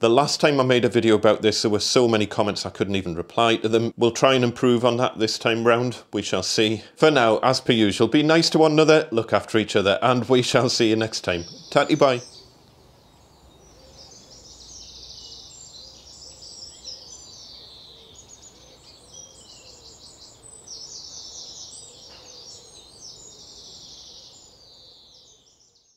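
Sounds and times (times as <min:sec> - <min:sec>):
birds chirping and trilling: 0:00.0 - 0:25.9.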